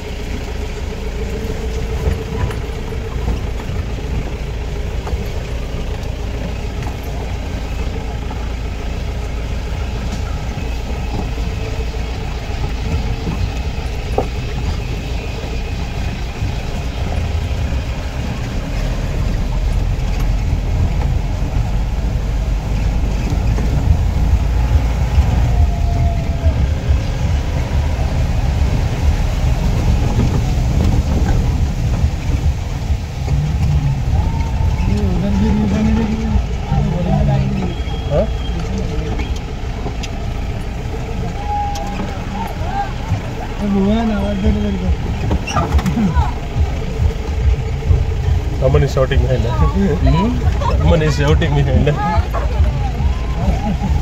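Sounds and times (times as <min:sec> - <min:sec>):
vehicle engine on rough track: 0:00.0 - 0:54.0.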